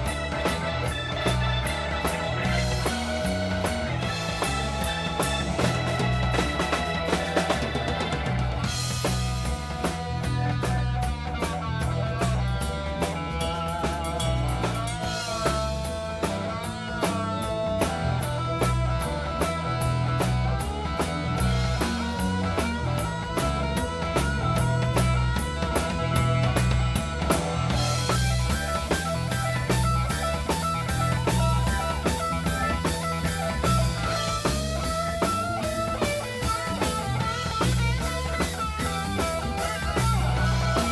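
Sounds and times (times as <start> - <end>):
drum kit and bass groove: 0.0 - 40.9
electric guitar solo: 0.0 - 40.9.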